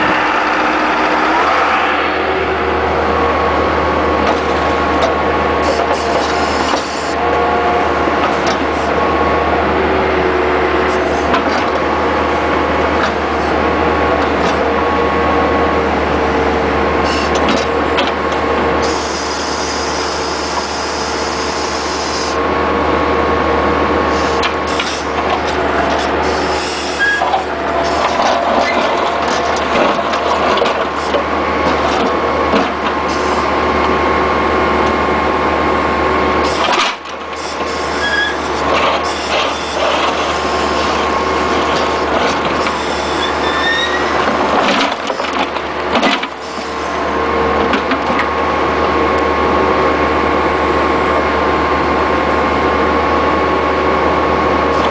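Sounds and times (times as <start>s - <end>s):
hydraulic whine: 0.0s - 53.3s
engine running under load: 0.0s - 54.9s.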